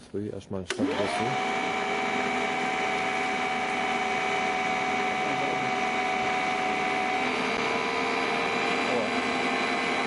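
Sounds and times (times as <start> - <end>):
electric motor driving generator: 0.7 - 10.0.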